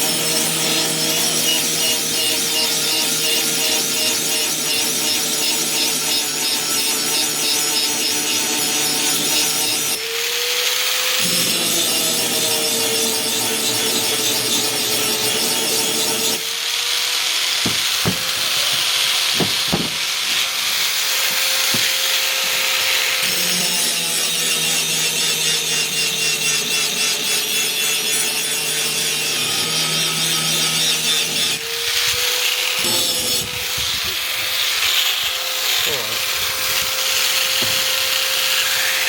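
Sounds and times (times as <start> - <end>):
power grinder sharpening axe: 0.0 - 39.0.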